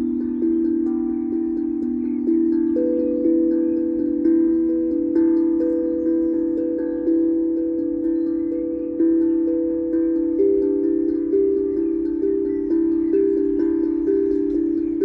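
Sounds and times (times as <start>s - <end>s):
tongue drum melody: 0.0s - 15.0s.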